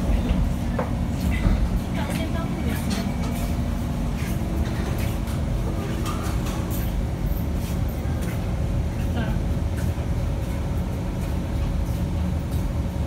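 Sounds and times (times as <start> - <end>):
train interior rumble and hum: 0.0 - 13.0.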